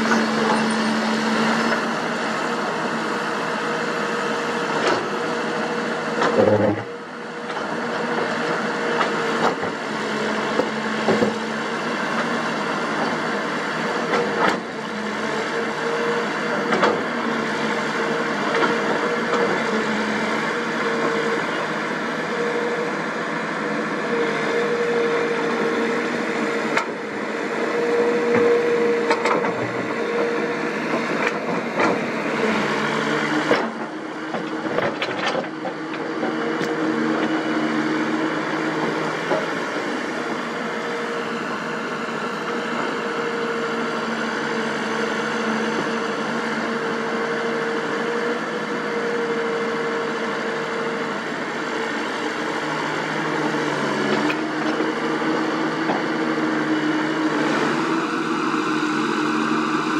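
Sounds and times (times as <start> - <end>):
excavator engine and hydraulic whine: 0.0 - 59.9.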